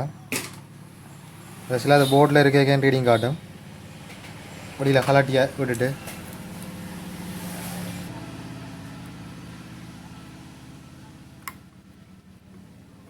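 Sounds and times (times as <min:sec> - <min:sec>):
hot-air station blowing: 0:00.6 - 0:12.9.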